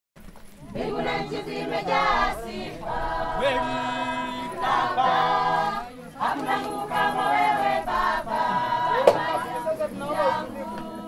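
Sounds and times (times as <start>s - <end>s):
group singing a cappella: 0.6s - 11.0s.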